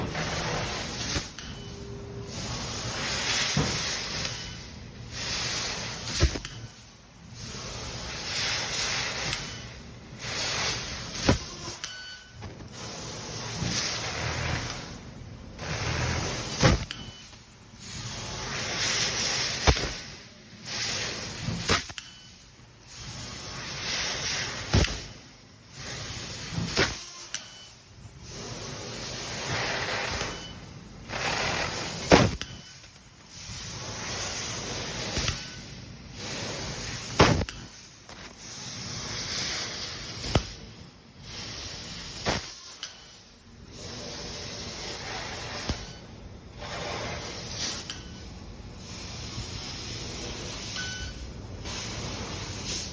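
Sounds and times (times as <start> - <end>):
laser cutter gas hissing: 0.0 - 52.9.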